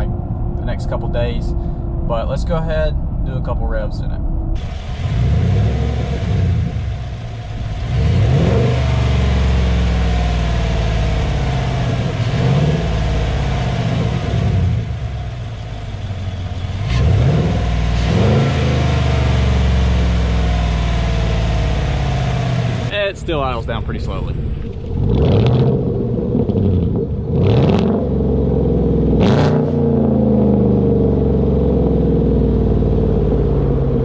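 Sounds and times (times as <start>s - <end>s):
engine revving and idling: 0.0s - 34.0s.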